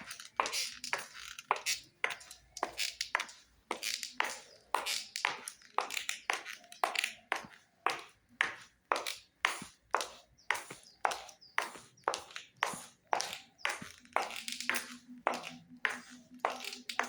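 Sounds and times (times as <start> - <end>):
footsteps with scrapes: 0.0 - 17.0.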